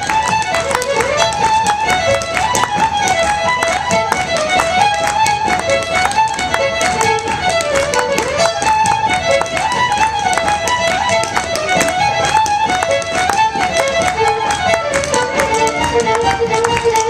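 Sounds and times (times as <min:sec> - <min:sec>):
fast fiddle dance tune: 0:00.0 - 0:17.0
feet tapping on floor: 0:00.0 - 0:17.0.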